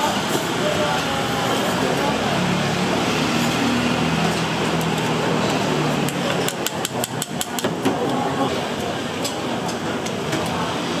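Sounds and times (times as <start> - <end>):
restaurant background noise: 0.0 - 11.0.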